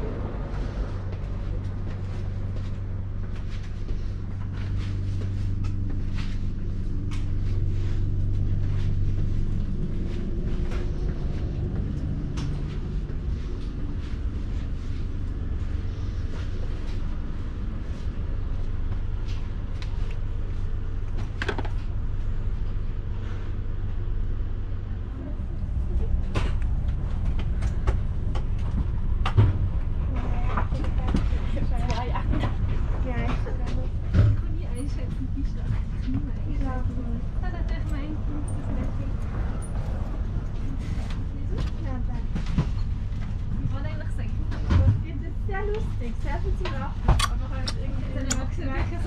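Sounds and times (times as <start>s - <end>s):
train cabin rumble: 0.0s - 49.0s.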